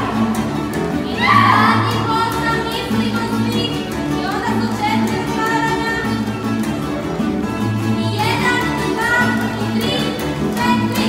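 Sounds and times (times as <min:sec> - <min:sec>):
double bass line: 0:00.0 - 0:11.0
folk string band playing: 0:00.0 - 0:11.0.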